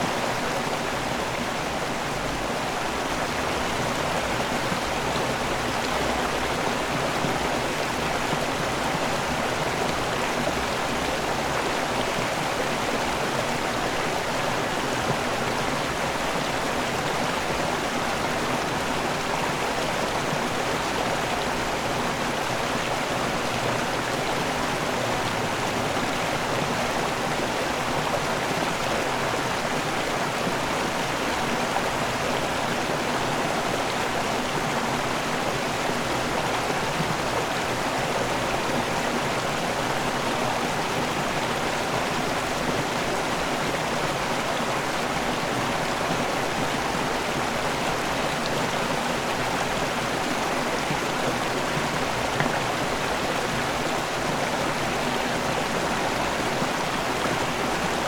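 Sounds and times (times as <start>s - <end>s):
waterfall water rushing: 0.0s - 58.0s.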